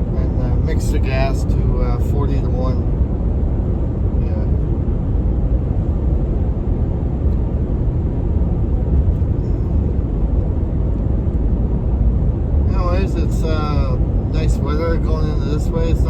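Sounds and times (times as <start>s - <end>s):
truck engine and tyre rumble: 0.0s - 16.0s.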